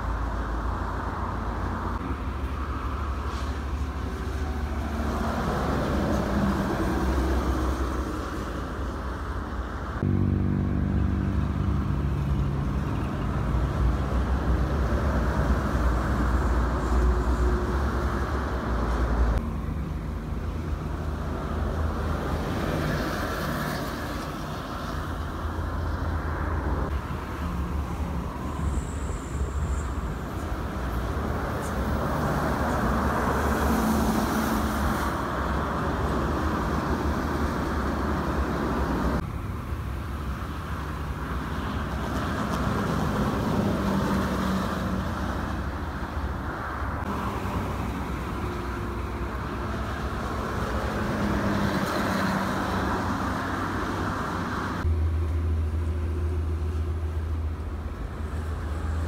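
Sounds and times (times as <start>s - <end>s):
traffic driving past at speed: 0.0s - 59.0s.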